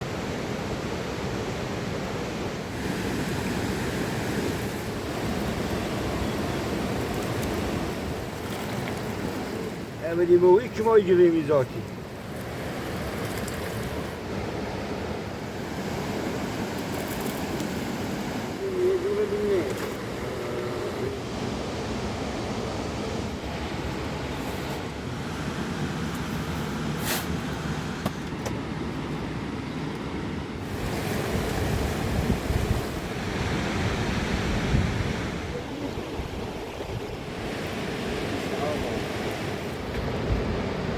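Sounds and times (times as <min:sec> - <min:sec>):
river rushing: 0:00.0 - 0:40.9
wind gusting on microphone: 0:00.0 - 0:40.9.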